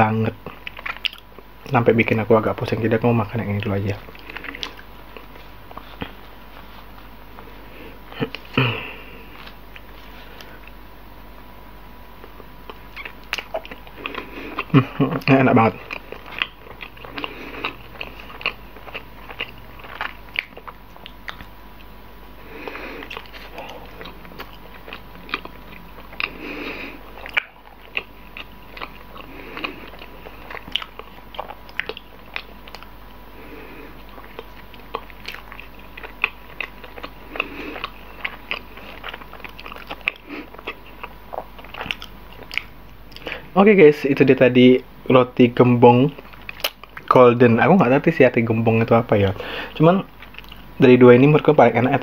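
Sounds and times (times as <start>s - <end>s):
soft chewing and biting: 0.4s - 10.8s, 12.2s - 43.5s, 46.1s - 47.2s, 50.0s - 50.7s.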